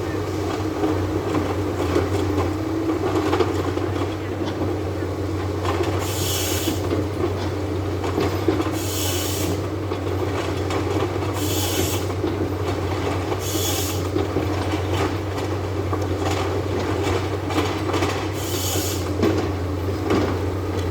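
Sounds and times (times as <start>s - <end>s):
harvester engine humming: 0.0s - 20.9s.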